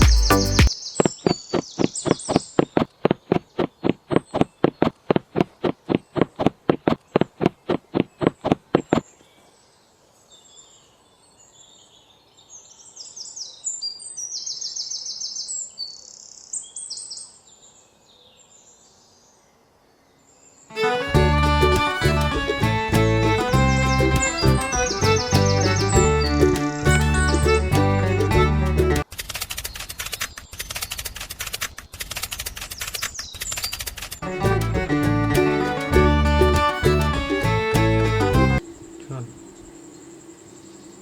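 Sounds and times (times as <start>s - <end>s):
small birds chirping: 0.0s - 19.5s, 20.1s - 29.0s, 29.6s - 41.0s.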